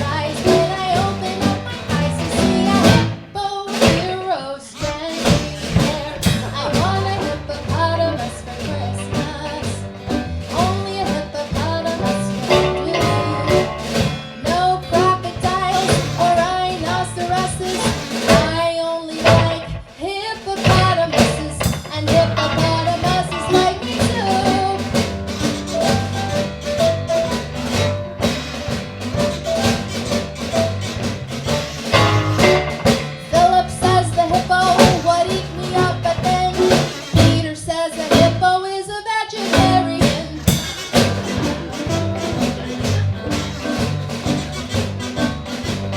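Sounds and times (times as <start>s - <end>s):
bass: 0.0s - 45.9s
drum kit beat: 0.0s - 45.9s
guitar: 0.0s - 45.9s
live band playing bluesy song: 0.0s - 45.9s.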